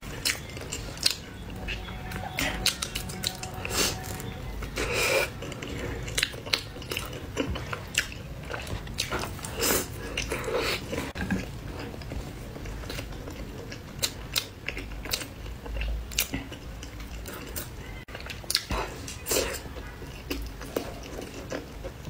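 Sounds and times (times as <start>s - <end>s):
person chewing with mouth smacks: 0.0s - 22.0s.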